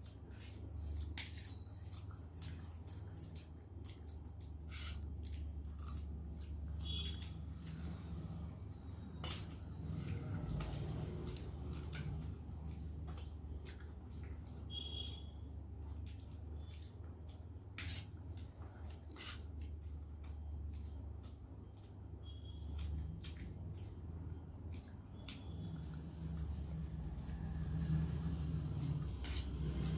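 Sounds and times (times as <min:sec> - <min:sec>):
wet eating sounds: 0:00.0 - 0:29.9.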